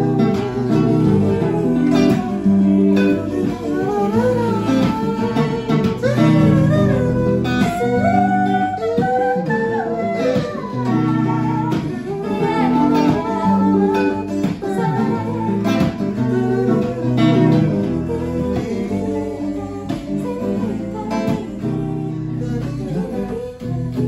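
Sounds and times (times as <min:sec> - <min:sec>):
acoustic guitar: 0:00.0 - 0:24.0
electric guitar: 0:00.0 - 0:24.0
voices singing: 0:00.0 - 0:24.0.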